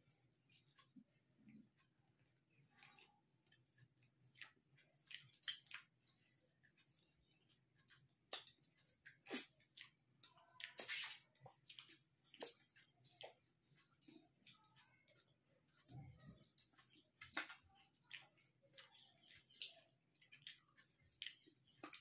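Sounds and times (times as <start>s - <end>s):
people chewing: 0.0s - 22.0s.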